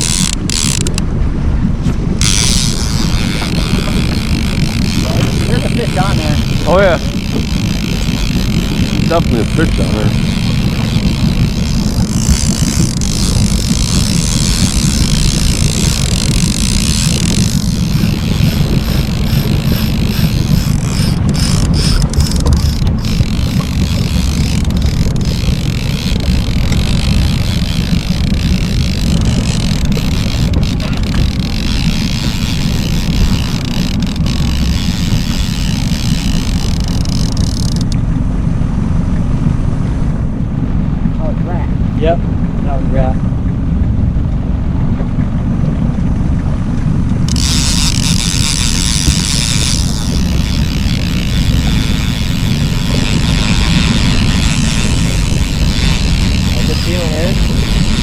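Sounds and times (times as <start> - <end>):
boat motor running: 0.0 - 58.0
wind buffeting microphone: 0.0 - 58.0.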